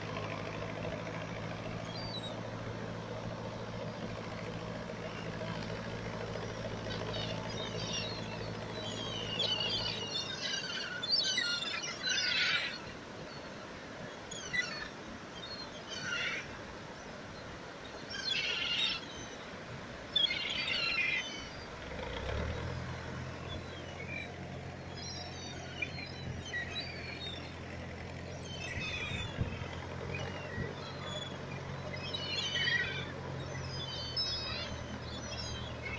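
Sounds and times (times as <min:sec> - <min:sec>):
gulls calling: 0:00.0 - 0:35.9
low engine hum: 0:00.0 - 0:35.9
surf: 0:00.0 - 0:35.9.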